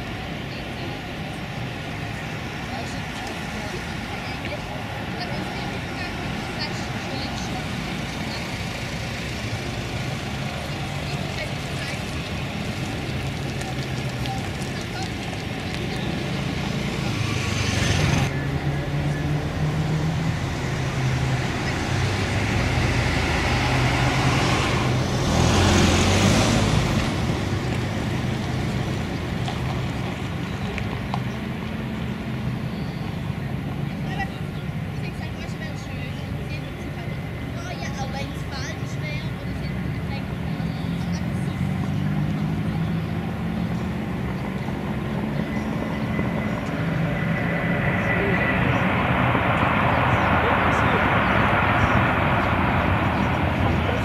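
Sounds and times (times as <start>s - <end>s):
propeller plane engines droning: 0.0s - 54.0s.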